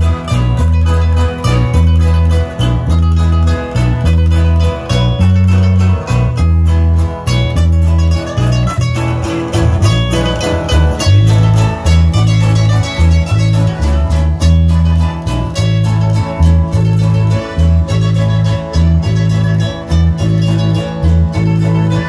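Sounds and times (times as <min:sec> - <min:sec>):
acoustic guitars: 0:00.0 - 0:22.0
deep bass line: 0:00.0 - 0:22.0.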